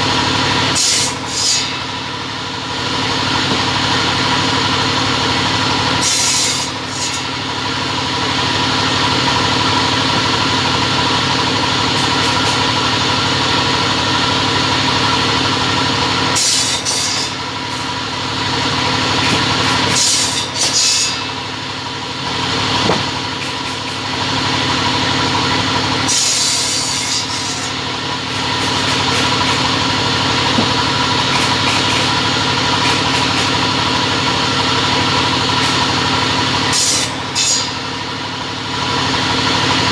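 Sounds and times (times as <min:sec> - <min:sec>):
cutting machine motor hum: 0:00.0 - 0:39.9.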